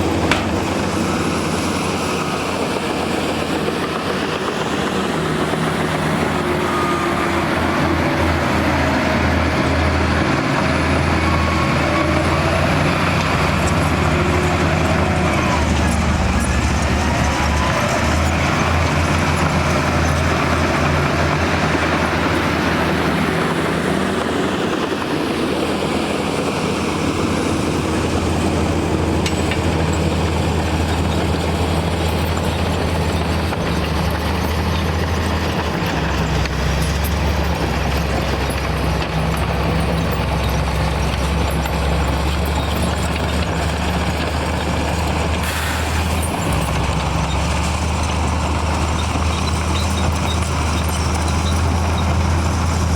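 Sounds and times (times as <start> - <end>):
heavy diesel engine rumbling: 0.0 - 52.9.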